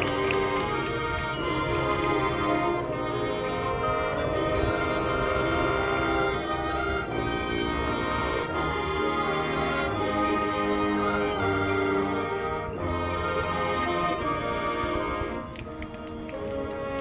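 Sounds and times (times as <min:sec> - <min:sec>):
marching band brass chords: 0:00.0 - 0:17.0.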